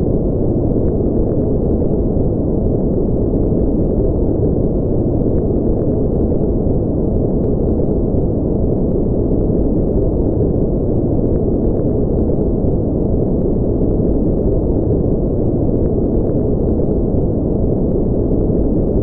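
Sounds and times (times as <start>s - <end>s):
deep muffled steady noise: 0.0s - 19.0s.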